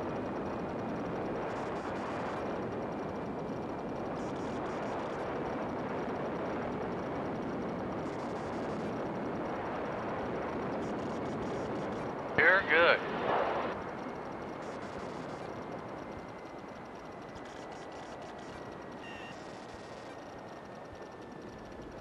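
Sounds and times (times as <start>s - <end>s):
aircraft engine and propeller drone: 0.0s - 22.0s.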